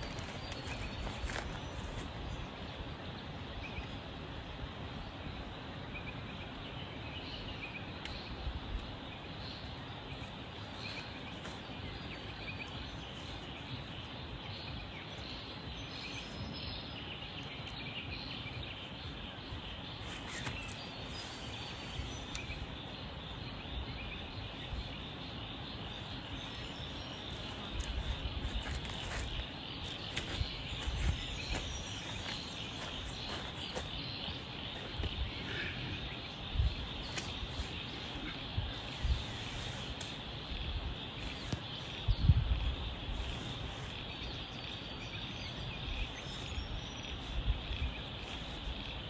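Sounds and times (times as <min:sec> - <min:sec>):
steady background hiss: 0:00.0 - 0:49.0
faint bird chirps: 0:09.1 - 0:49.0.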